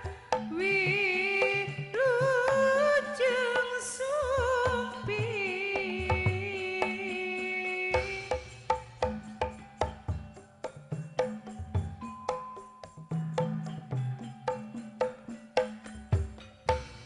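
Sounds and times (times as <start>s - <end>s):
drum strokes: 0.0s - 17.0s
gamelan melody: 0.0s - 17.0s.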